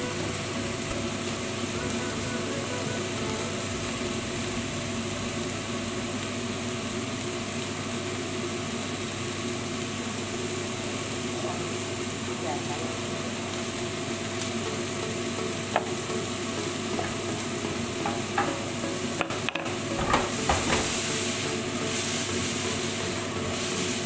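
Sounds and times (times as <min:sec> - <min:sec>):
food sizzling hiss: 0:00.0 - 0:24.0.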